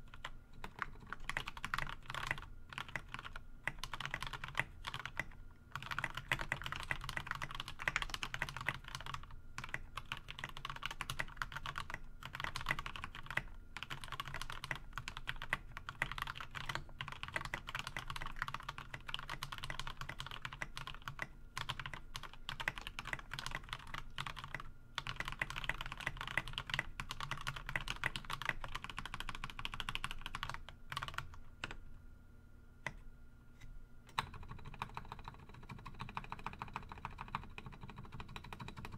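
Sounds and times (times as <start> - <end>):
mechanical keyboard typing: 0.0 - 31.8, 34.1 - 38.9.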